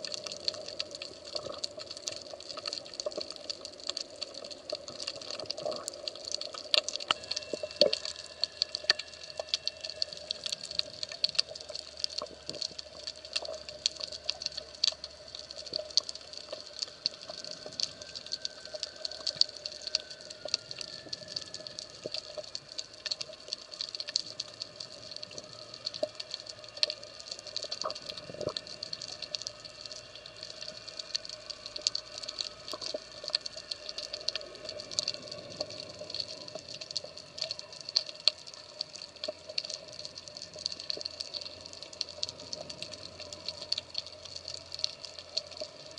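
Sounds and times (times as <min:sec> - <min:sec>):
crackle of sharp clicks underwater: 0:00.0 - 0:45.9.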